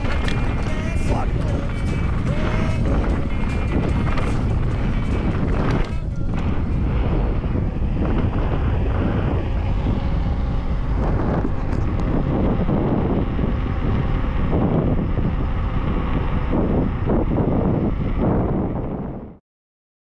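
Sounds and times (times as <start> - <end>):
wind buffeting microphone: 0.0 - 19.4.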